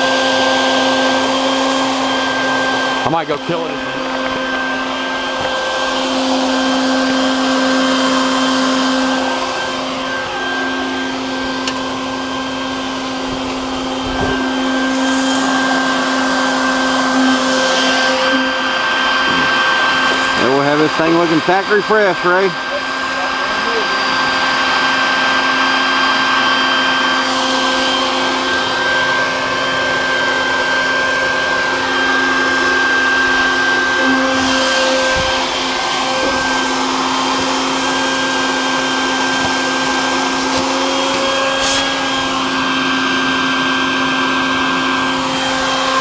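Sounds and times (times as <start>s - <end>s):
blower motor high whine: 0.0s - 46.0s.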